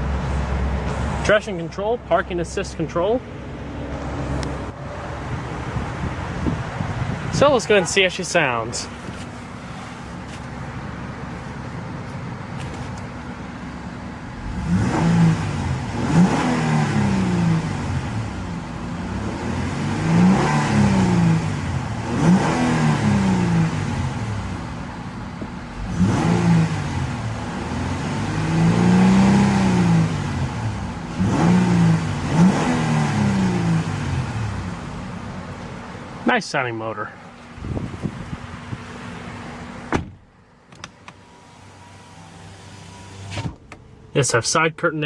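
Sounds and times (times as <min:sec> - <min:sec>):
car engine idling and revving: 0:00.0 - 0:45.0.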